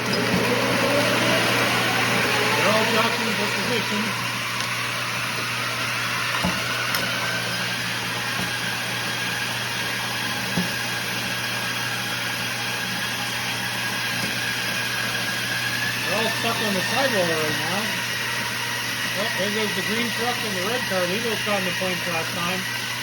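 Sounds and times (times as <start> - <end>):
treadmill motor humming: 0.0 - 23.0.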